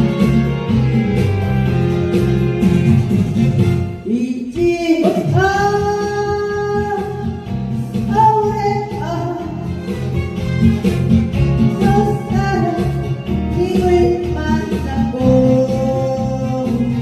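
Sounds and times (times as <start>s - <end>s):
long-held lead melody: 0.0s - 4.7s, 5.4s - 17.0s.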